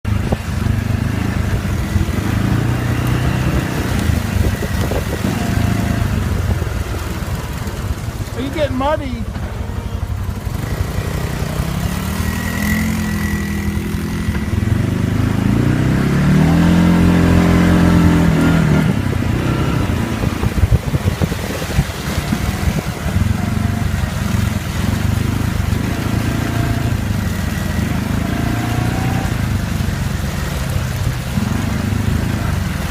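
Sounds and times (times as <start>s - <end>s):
atv engine revving: 0.0s - 32.9s.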